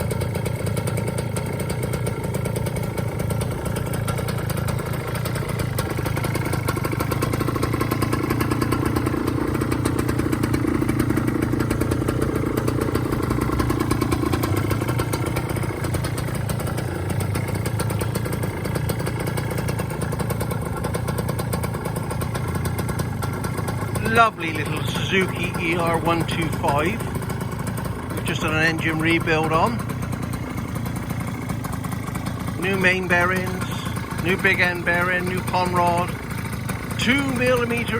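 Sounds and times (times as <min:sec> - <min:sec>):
two-stroke engine idling: 0:00.0 - 0:37.9.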